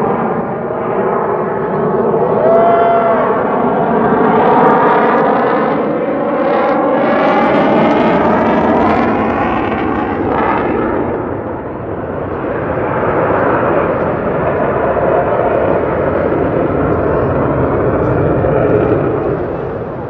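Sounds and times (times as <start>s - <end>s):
airplane flying overhead: 0.0s - 20.0s.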